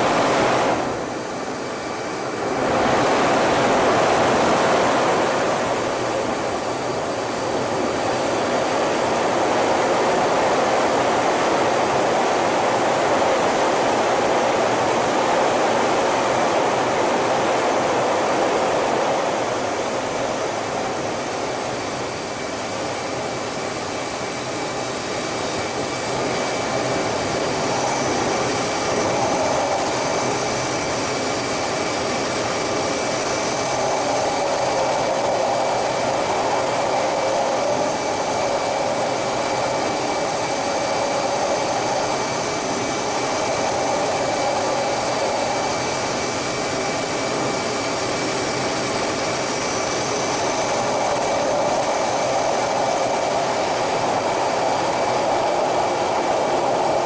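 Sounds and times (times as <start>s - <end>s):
jet engines and airflow rushing: 0.0s - 57.0s
thin high whine: 0.0s - 57.0s.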